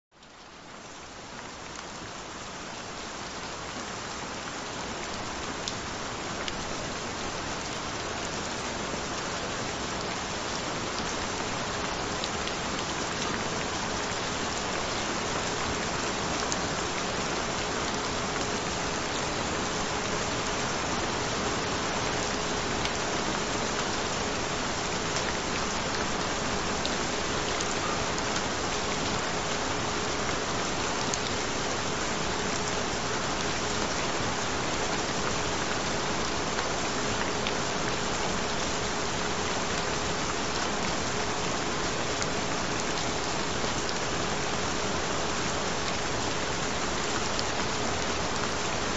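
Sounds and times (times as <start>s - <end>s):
steady rain: 0.1s - 48.9s.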